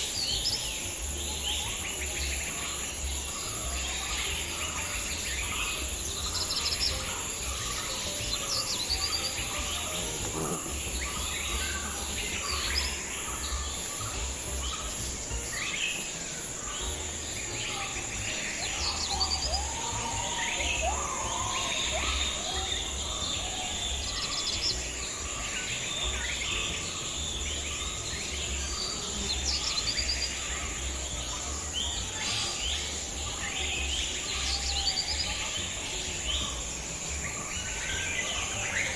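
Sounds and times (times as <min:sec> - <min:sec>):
birds chirping and trilling: 0:00.0 - 0:38.9
high insect drone: 0:00.0 - 0:38.9.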